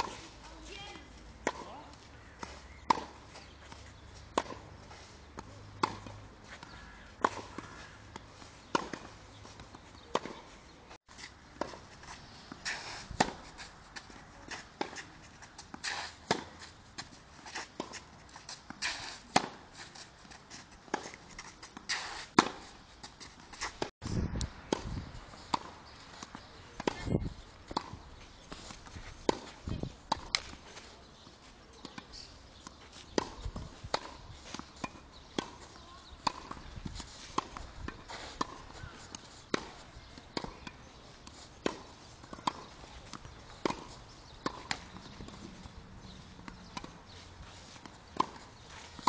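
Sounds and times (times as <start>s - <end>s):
tennis ball bouncing: 1.4s - 4.7s, 5.3s - 10.7s, 11.5s - 23.9s, 24.7s - 49.0s
racket hitting tennis ball: 5.3s - 10.5s, 11.2s - 23.9s, 24.7s - 30.7s, 31.8s - 49.0s.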